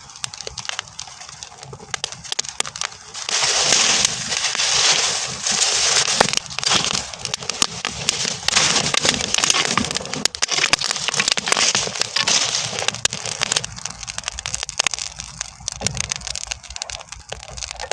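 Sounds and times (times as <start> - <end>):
burning straw crackling: 0.0 - 17.9.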